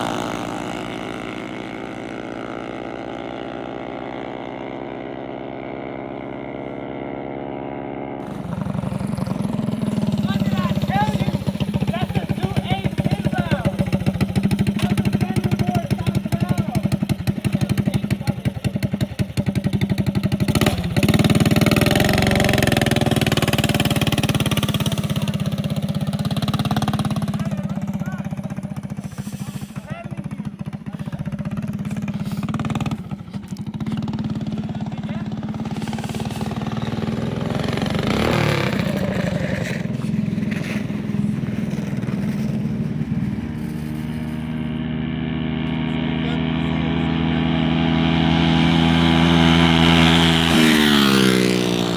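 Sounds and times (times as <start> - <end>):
small engine running and revving: 0.0 - 51.9.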